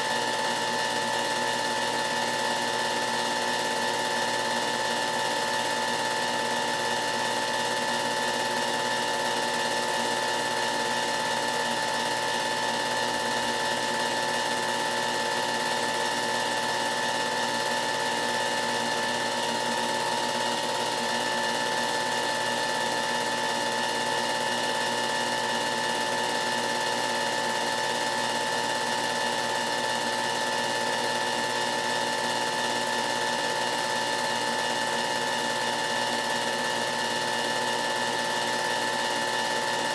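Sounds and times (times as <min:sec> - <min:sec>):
movie projector running: 0:00.0 - 0:39.9.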